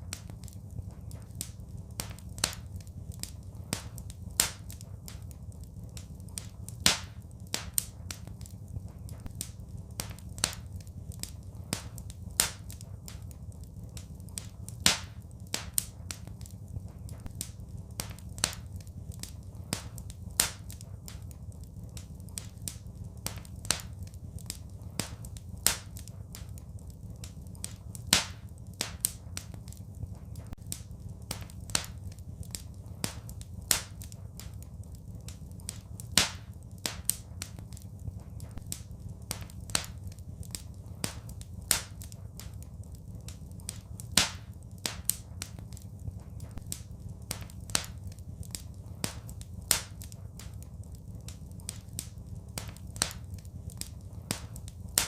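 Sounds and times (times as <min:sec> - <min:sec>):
low rumble of flames: 0:00.0 - 0:55.0
wood fire popping and snapping: 0:00.0 - 0:55.0.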